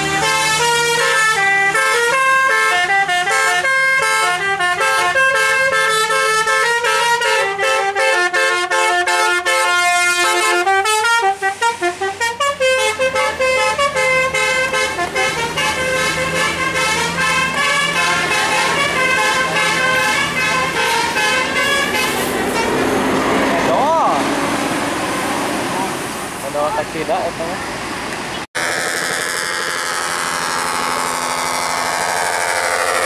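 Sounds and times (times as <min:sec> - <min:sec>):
bus melody horn playing a tune: 0:00.0 - 0:23.2, 0:28.6 - 0:33.0.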